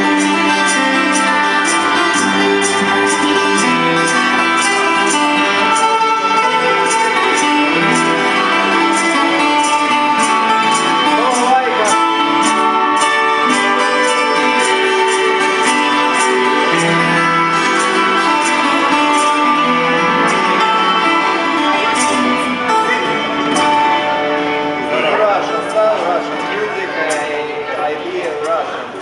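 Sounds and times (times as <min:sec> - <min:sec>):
plucked lute playing: 0:00.0 - 0:29.0.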